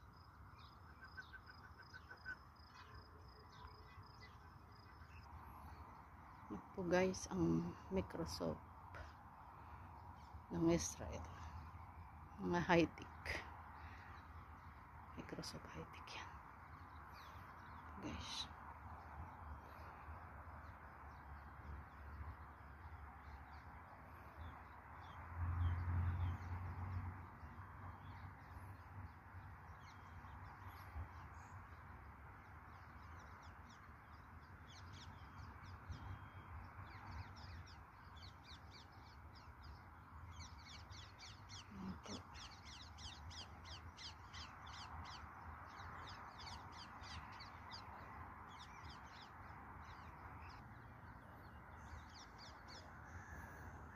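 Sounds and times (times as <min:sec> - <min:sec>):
steady distant hum: 0:00.0 - 0:53.9.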